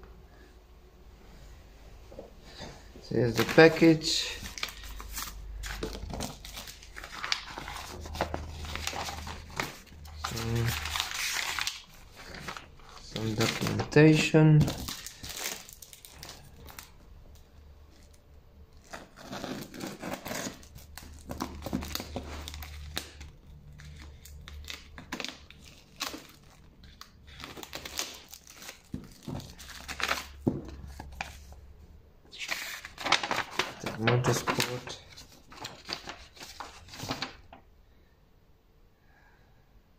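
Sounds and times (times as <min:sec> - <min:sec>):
plastic and papers crinkling: 0:03.1 - 0:17.0, 0:18.8 - 0:31.6, 0:32.3 - 0:37.6.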